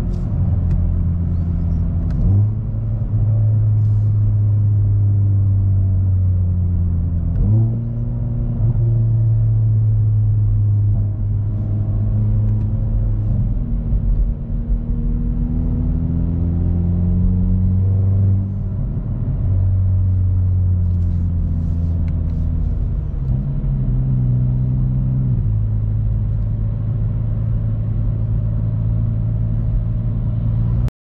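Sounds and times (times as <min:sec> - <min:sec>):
car engine droning at cruise: 0:00.0 - 0:30.9.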